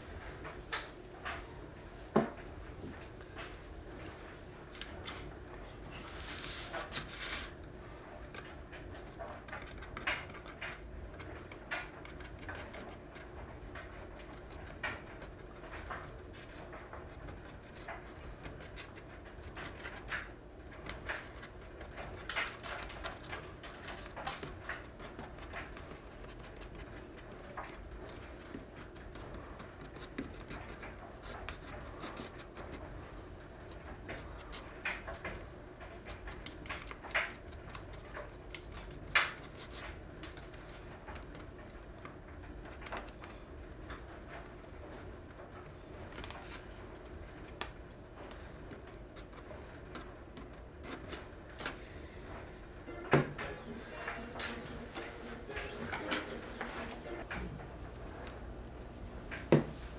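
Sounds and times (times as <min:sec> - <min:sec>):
low room hum: 0:00.0 - 0:59.9
tape rustling and clicking: 0:02.1 - 0:59.9.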